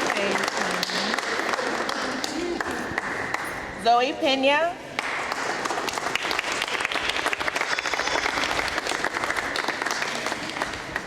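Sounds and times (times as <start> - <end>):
audience applauding: 0.0 - 3.4, 5.0 - 11.0.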